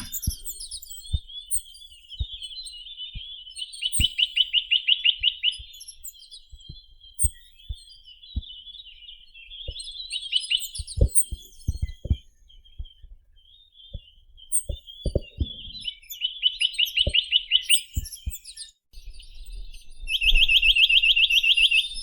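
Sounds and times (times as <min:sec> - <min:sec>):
bird singing fast trills: 0:00.0 - 0:22.0.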